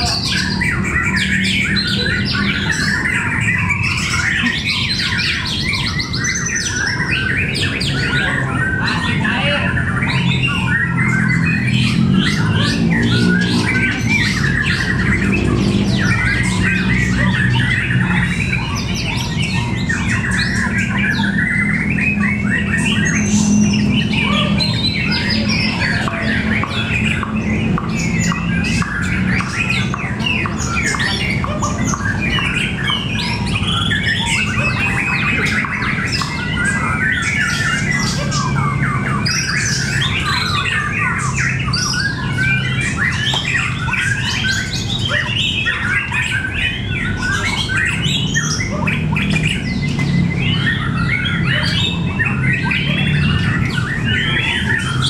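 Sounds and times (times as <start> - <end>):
birds singing: 0.0 - 55.0.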